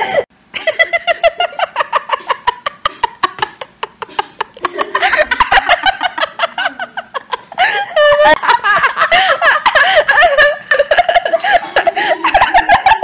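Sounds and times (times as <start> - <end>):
women laughing: 0.0 - 13.0.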